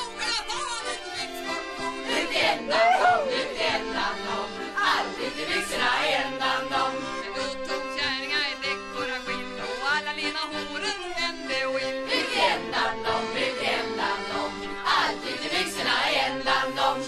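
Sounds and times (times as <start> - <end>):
acoustic folk ensemble music: 0.0 - 17.0.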